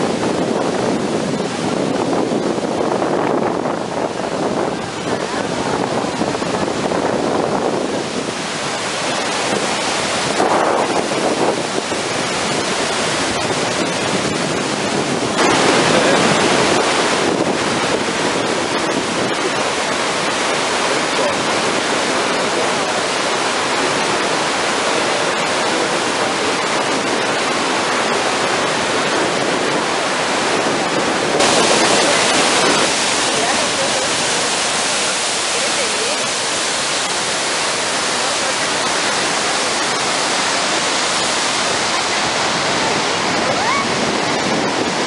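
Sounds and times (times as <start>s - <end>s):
waterfall roaring: 0.0s - 45.0s.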